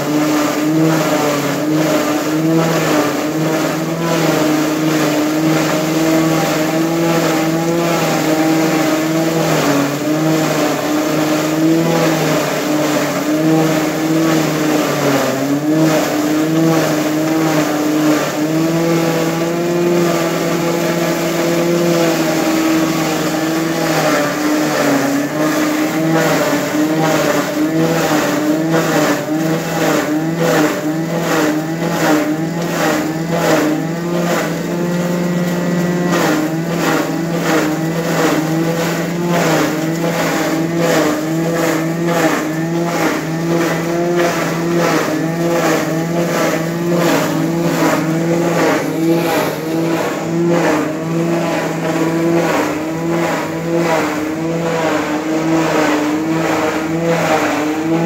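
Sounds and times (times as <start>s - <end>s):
grinding machine motor hum: 0.0s - 58.0s.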